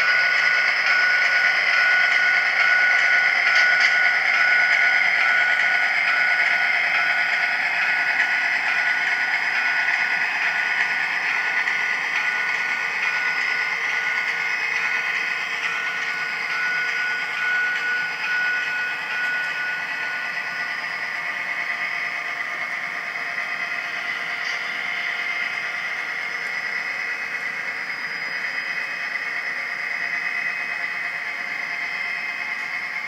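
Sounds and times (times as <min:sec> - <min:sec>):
model train rolling on track: 0:00.0 - 0:33.0
thin whine: 0:00.0 - 0:33.0.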